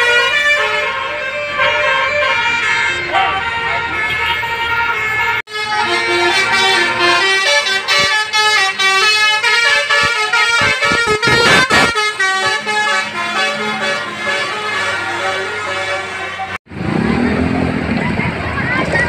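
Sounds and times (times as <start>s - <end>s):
musical bus air horn: 0.0s - 16.6s.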